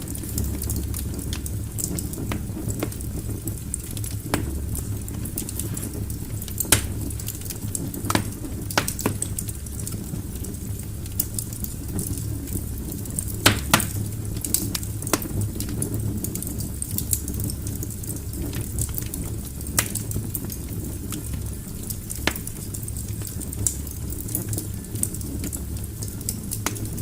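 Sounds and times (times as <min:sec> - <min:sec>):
fire rumbling with crackles: 0:00.0 - 0:27.0.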